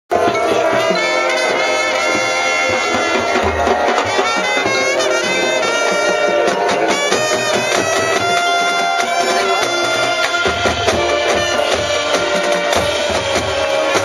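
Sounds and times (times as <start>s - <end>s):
brass sustained chords: 0.1s - 14.0s
drumline percussion: 0.1s - 14.0s
marching band playing: 0.1s - 14.0s.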